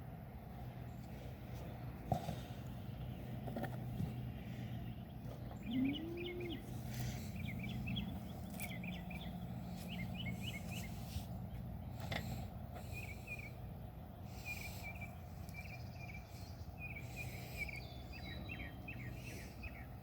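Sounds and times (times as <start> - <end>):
low background hum: 0.0 - 20.0
birds chirping: 0.3 - 20.0.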